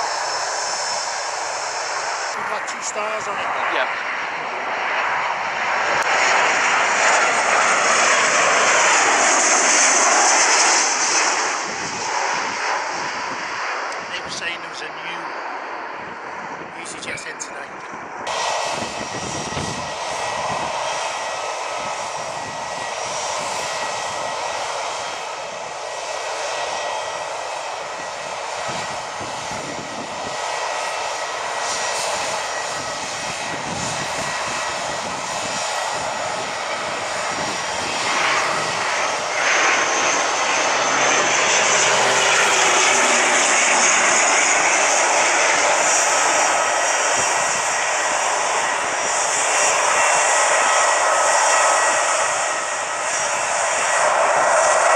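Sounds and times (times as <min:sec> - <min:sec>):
airliner engines rushing: 0:00.0 - 0:54.9
thin engine whine: 0:00.0 - 0:54.9.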